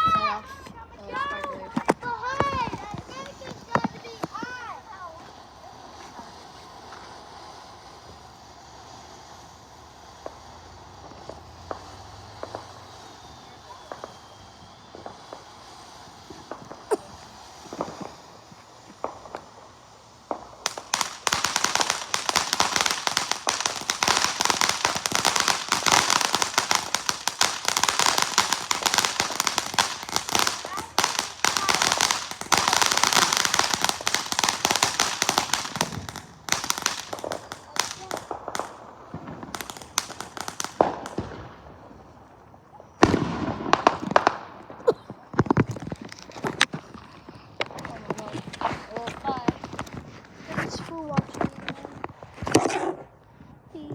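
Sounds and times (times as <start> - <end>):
fireworks crackling: 0.0 - 53.9.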